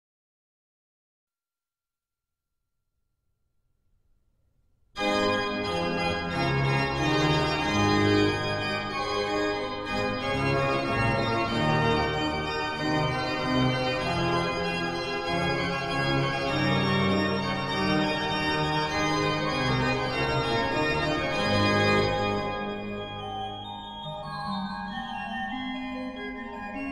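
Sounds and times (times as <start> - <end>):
organ music: 5.0 - 26.9.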